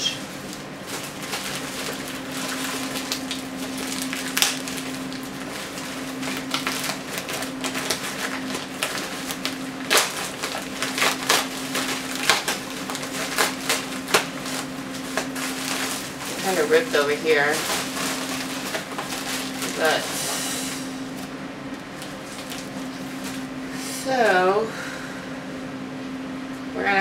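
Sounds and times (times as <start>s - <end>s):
plastic packaging crinkling: 0.0s - 23.6s.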